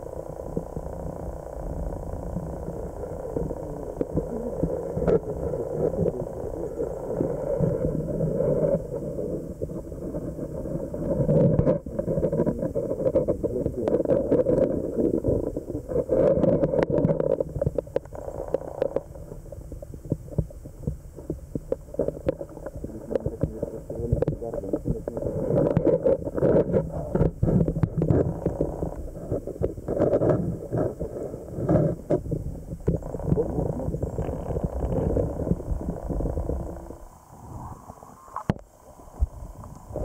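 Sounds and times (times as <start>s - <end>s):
muffled underwater water rumble: 0.0s - 40.0s.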